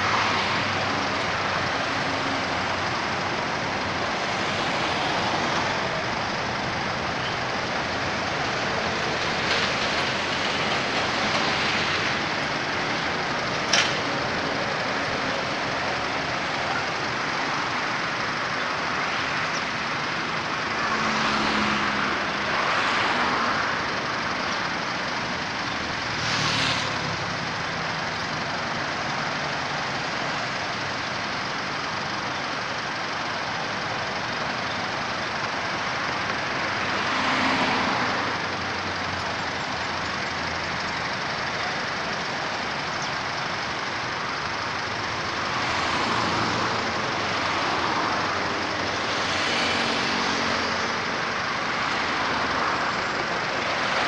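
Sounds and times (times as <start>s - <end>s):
highway traffic noise: 0.0s - 54.0s
vehicles passing: 0.0s - 54.0s.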